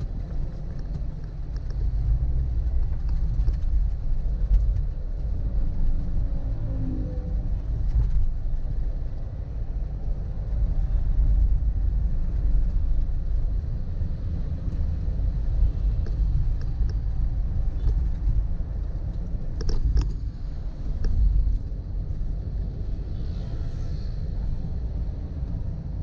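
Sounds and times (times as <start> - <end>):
vehicle rumble on road: 0.0 - 26.0.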